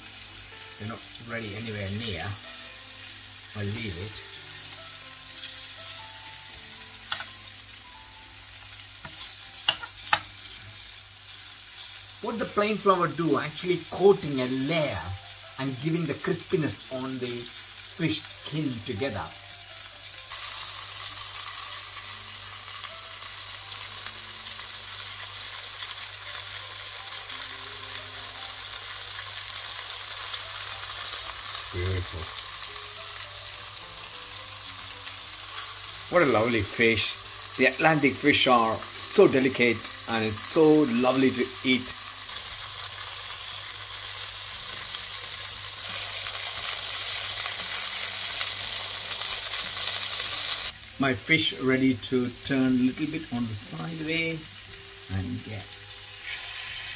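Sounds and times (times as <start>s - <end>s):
fish sizzling in oil: 0.0s - 56.9s.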